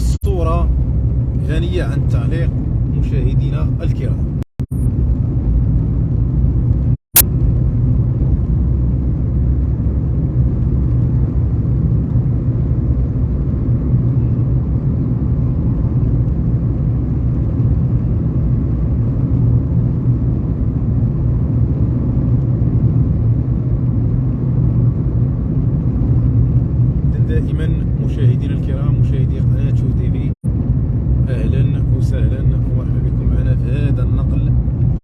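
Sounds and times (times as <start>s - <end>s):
car engine and tyre noise: 0.0s - 35.0s.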